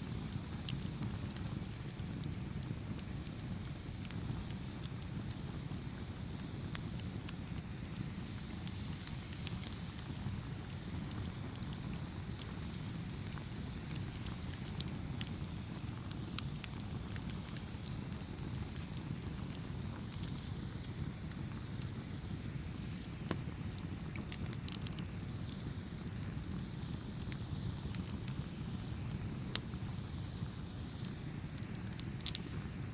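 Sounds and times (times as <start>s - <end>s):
fire popping and crackling: 0.0s - 32.9s
flames rumbling: 0.0s - 32.9s.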